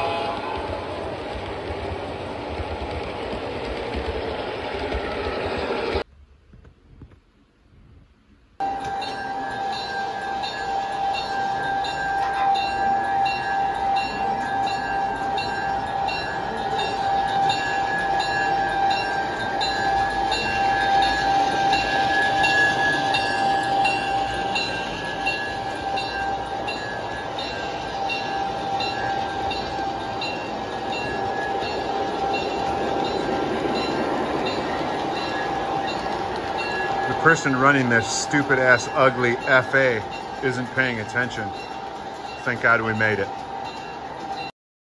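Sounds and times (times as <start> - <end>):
model train whining and clicking: 0.0 - 7.1, 8.6 - 44.5.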